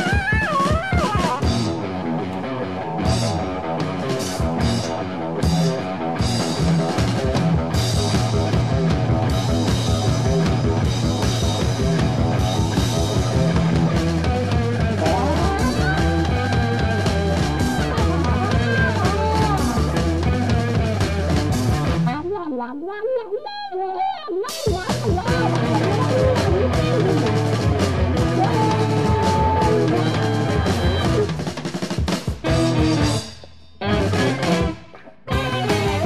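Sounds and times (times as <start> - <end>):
fast drum run: 0.0 - 1.9, 3.0 - 22.1, 24.5 - 36.0
rock band playing: 0.0 - 22.3, 24.5 - 36.0.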